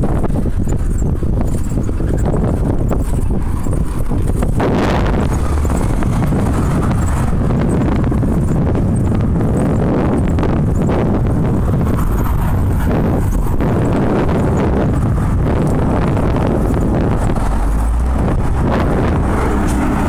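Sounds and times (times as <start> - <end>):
traffic noise: 0.0 - 20.0
wind buffeting microphone: 0.0 - 20.0.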